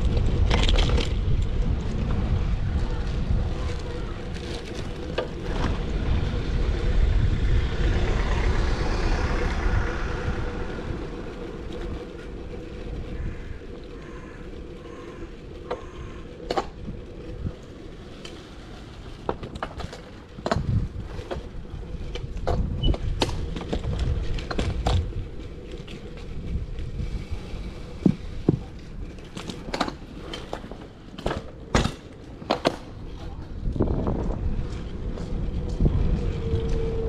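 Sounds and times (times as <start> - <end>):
bike rattling over bumps: 0.0 - 37.0
bike tyre rumble on paving: 0.0 - 37.0.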